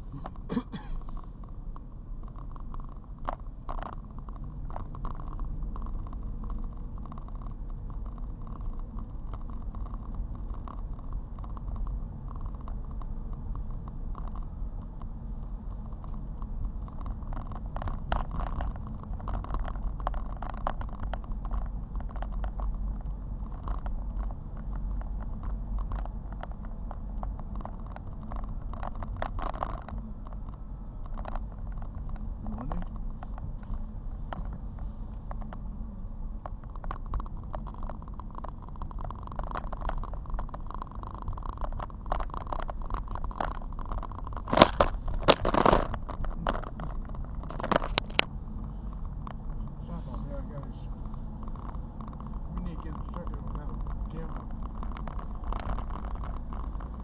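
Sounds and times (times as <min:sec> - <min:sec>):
car road rumble on wet road: 0:00.0 - 0:57.0
crackles and ticks: 0:00.0 - 0:57.0.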